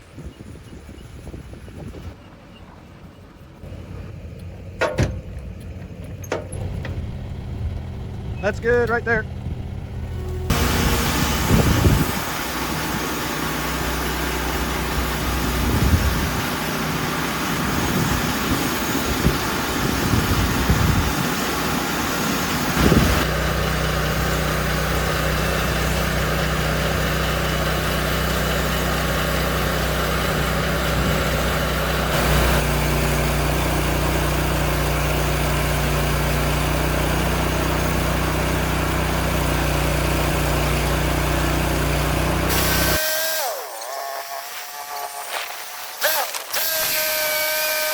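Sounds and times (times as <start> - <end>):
gasoline engine running: 0.3 - 43.6.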